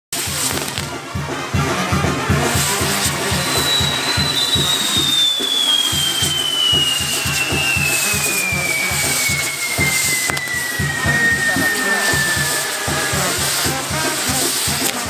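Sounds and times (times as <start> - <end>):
spinning firework wheels hissing: 0.2 - 0.9, 2.4 - 15.0
band music with low beat: 0.2 - 15.0
firework whistle falling in pitch: 1.6 - 15.0.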